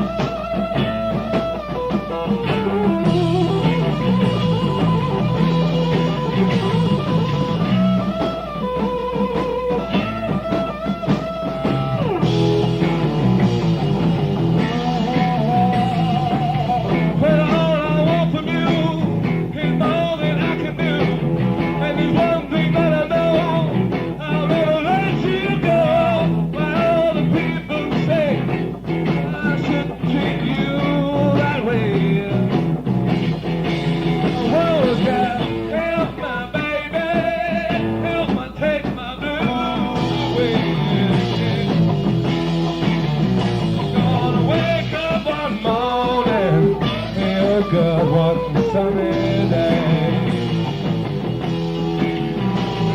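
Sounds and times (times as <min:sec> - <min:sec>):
bending lead guitar line: 0:00.0 - 0:52.9
live rock band playing: 0:00.0 - 0:52.9.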